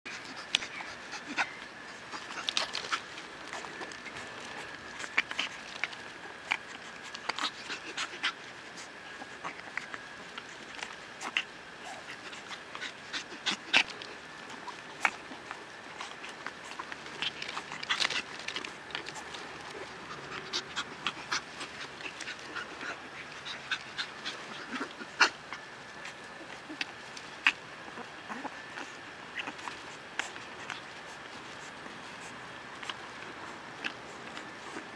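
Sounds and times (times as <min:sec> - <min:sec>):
puppies panting: 0:00.1 - 0:34.9.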